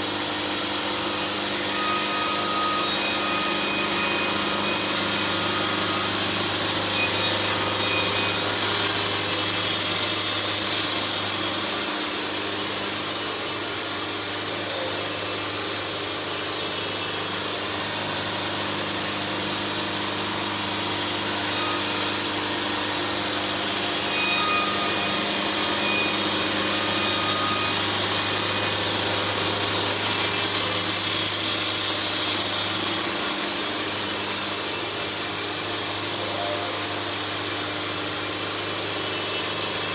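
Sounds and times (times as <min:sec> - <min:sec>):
machine hum: 0:00.0 - 0:39.8
saw cutting through a log: 0:00.0 - 0:39.9.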